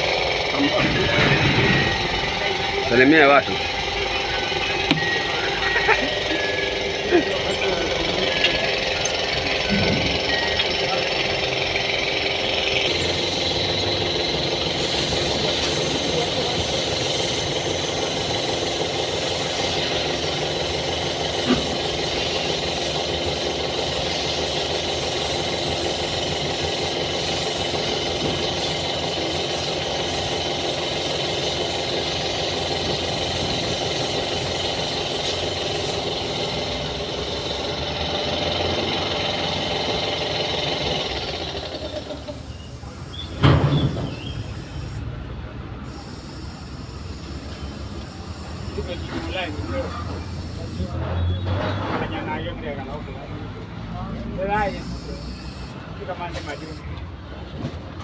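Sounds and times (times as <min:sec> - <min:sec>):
machine motor running: 0:00.0 - 0:45.2, 0:45.9 - 0:50.9.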